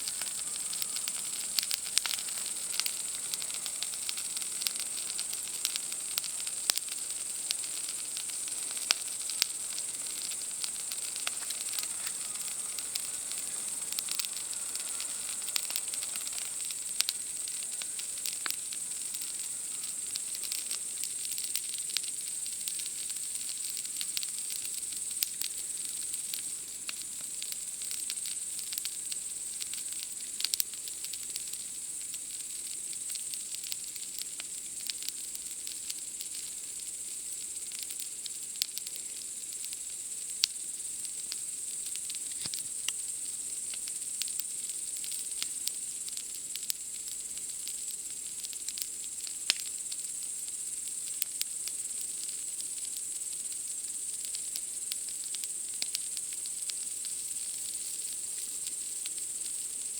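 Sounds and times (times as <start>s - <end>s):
campfire crackling and popping: 0.0s - 59.9s
night insects chirring: 0.0s - 59.9s.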